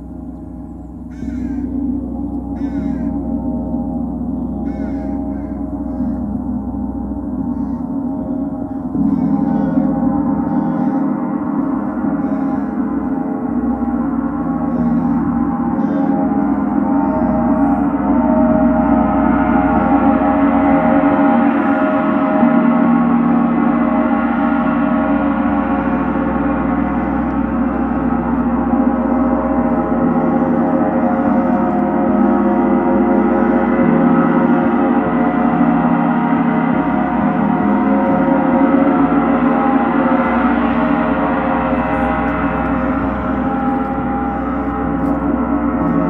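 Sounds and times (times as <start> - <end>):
gong ringing: 0.0 - 46.0.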